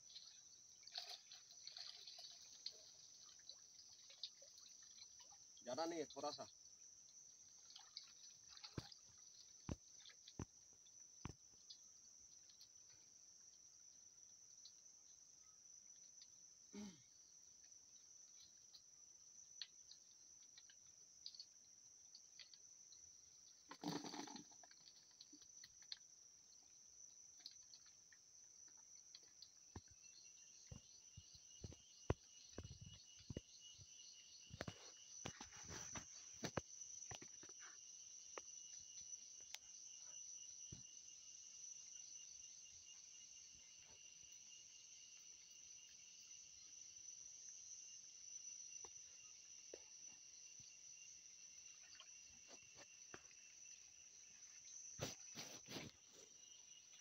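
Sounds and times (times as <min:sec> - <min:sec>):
insects chirring in a high trill: 0:00.0 - 0:57.0
lower pulsing insect trill: 0:00.0 - 0:57.0.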